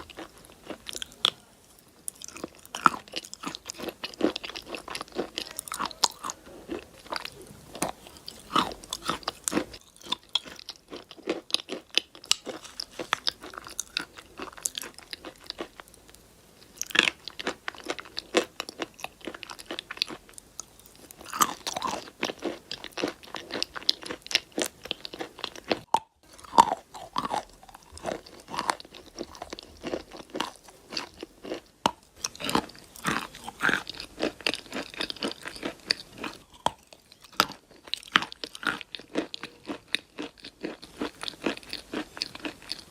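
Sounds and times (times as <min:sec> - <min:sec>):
crunching and chewing chalk: 0:00.0 - 0:42.9.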